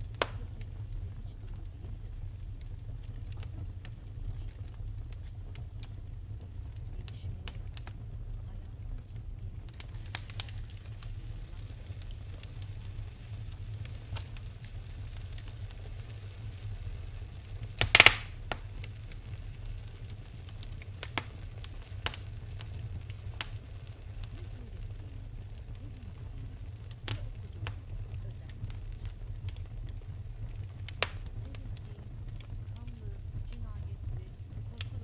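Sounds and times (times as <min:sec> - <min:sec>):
loud fire snap: 0:00.0 - 0:35.0
steady low rumble: 0:00.0 - 0:35.0
wood fire crackling: 0:00.0 - 0:35.0.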